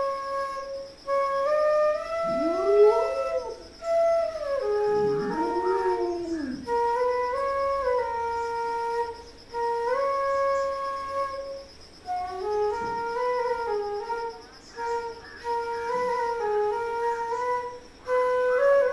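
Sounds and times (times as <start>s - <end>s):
flute playing slow melody: 0.0s - 18.9s.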